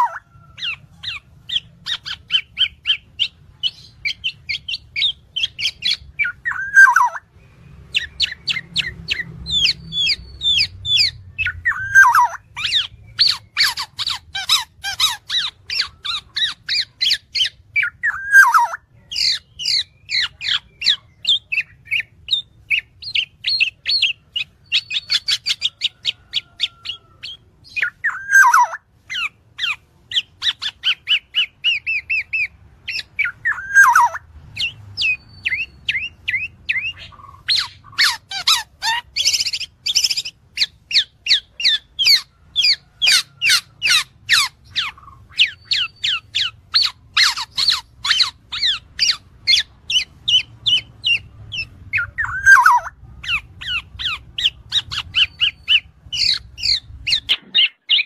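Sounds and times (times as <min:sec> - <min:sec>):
bird chattering: 0:00.0 - 0:58.0.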